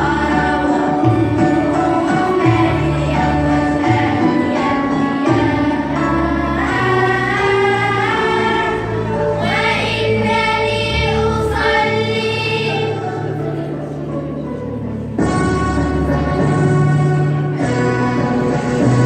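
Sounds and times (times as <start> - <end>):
children's choir singing: 0.0 - 19.0
low instrumental accompaniment: 0.0 - 19.0.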